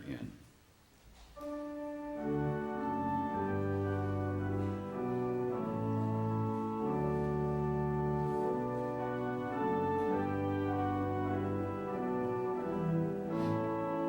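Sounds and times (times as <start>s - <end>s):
church organ chords: 1.4s - 14.0s.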